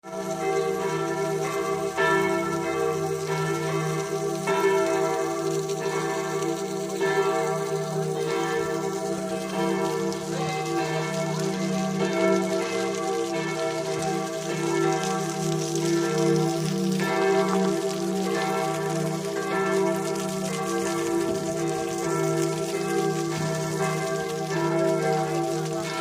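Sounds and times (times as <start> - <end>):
bells ringing in a peal: 0.0 - 26.0.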